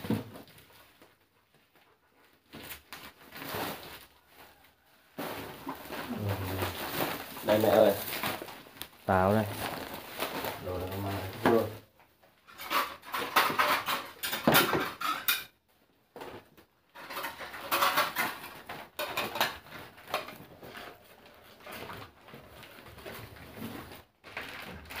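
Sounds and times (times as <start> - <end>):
newspaper and plastic rustling: 0.0 - 15.4, 16.1 - 25.0.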